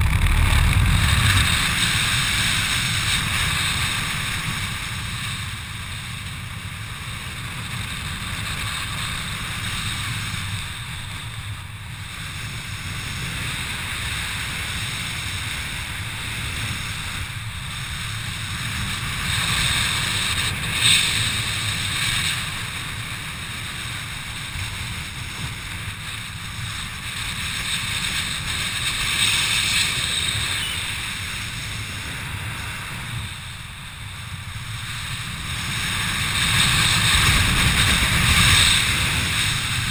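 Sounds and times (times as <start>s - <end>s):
wind rushing over microphone: 0.0s - 5.4s, 12.0s - 39.9s.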